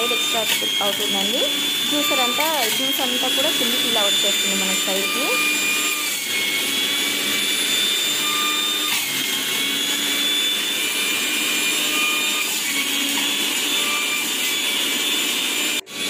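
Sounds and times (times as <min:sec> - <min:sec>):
juicer motor whirring: 0:00.0 - 0:16.0.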